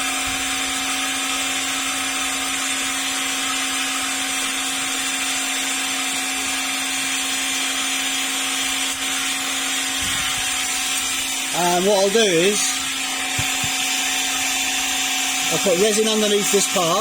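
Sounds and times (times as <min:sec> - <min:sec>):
hot air blower running: 0:00.0 - 0:17.0.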